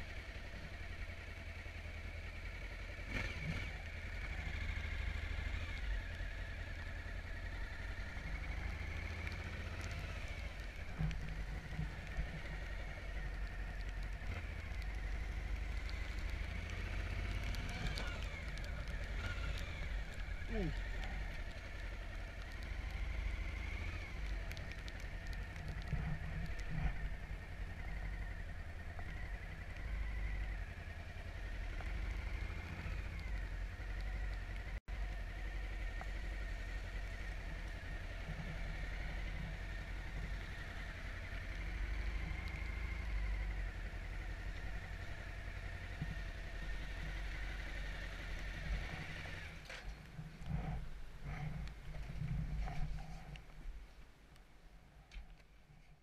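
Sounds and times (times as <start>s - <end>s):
motorcycle engine running: 0.0s - 53.6s.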